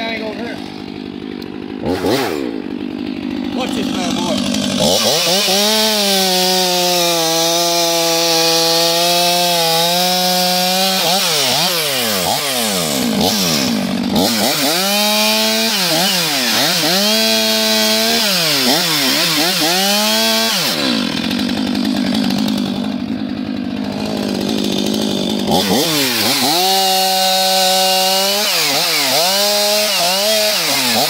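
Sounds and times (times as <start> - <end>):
chainsaw revving: 0.0 - 31.0.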